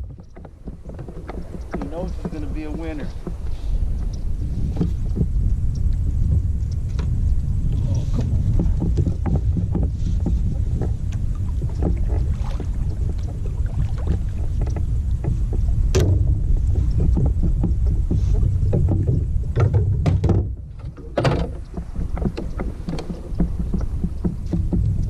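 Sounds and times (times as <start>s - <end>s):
clicks and knocks from kayak hull: 0.0s - 25.0s
steady low rumble: 0.0s - 25.0s.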